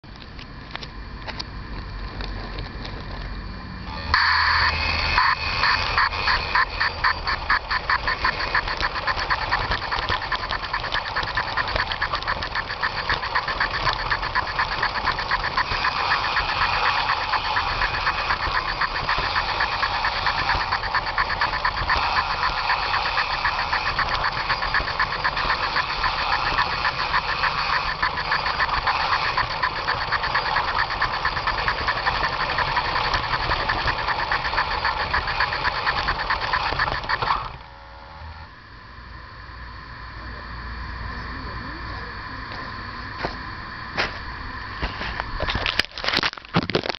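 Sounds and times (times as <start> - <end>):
model locomotive mechanical chatter: 0.1 - 38.3, 39.2 - 46.9.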